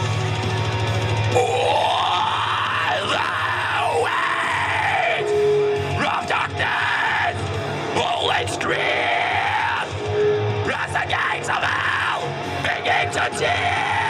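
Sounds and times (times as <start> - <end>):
heavy metal band playing live: 0.0 - 14.0.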